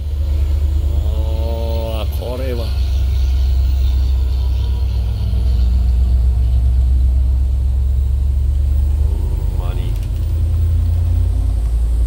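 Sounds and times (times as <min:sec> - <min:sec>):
bus engine rumbling under load: 0:00.0 - 0:12.0.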